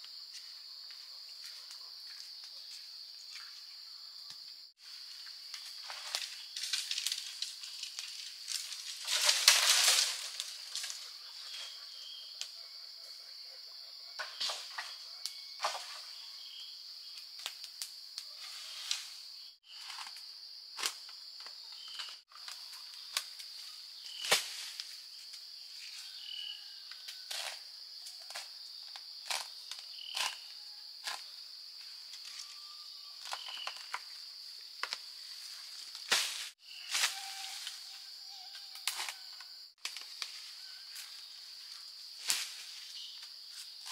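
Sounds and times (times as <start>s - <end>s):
forest insects droning: 0.0s - 43.9s.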